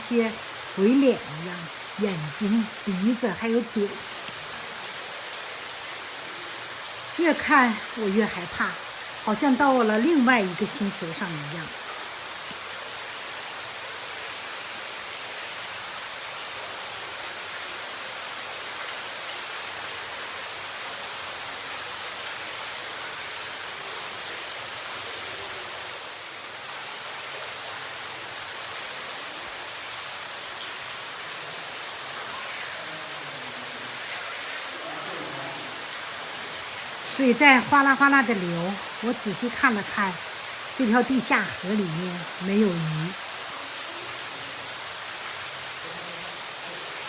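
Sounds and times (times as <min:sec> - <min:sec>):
water streaming in a cave: 0:00.0 - 0:47.0.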